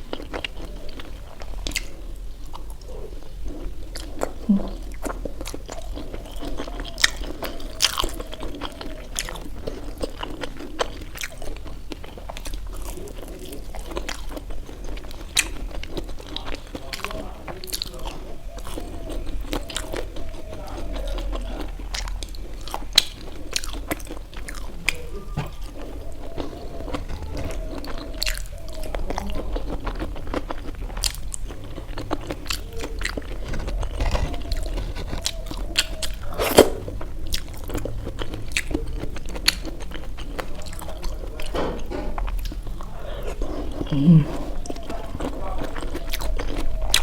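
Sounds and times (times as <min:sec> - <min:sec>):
person chewing: 0:00.0 - 0:47.0
wet mouth clicks: 0:00.0 - 0:47.0.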